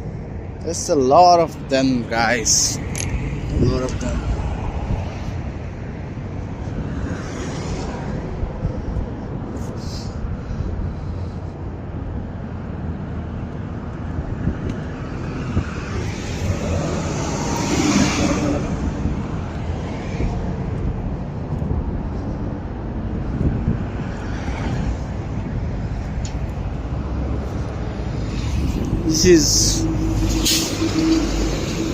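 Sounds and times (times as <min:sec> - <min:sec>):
traffic rumble: 0:00.0 - 0:31.9
vehicle passing close: 0:01.5 - 0:11.6, 0:14.0 - 0:31.9.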